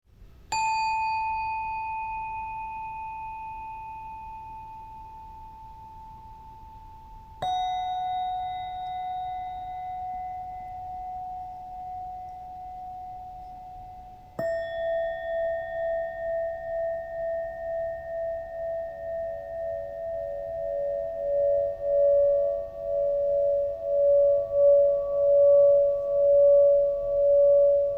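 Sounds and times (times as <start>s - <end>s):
singing bowls ringing: 0.5s - 27.9s.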